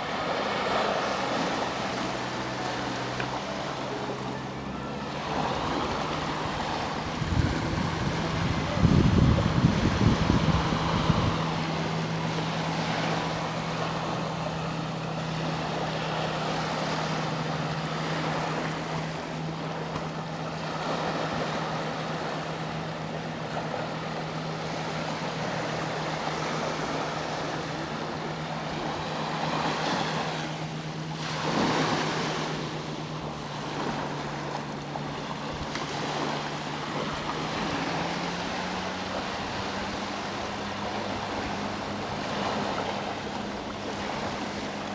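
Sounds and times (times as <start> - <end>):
boat engine droning: 0.0 - 44.9
sea waves washing onto shore: 0.0 - 44.9.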